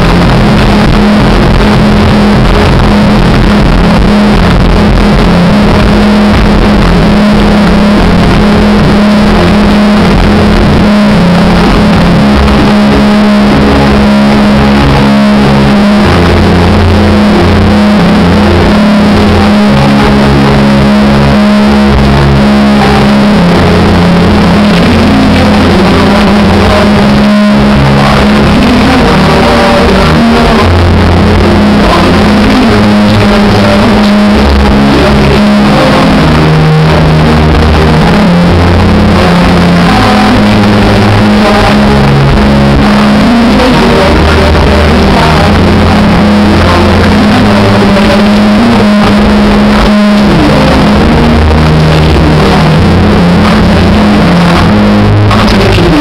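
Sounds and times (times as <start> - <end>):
loud dance music with heavy bass: 0.0 - 56.0.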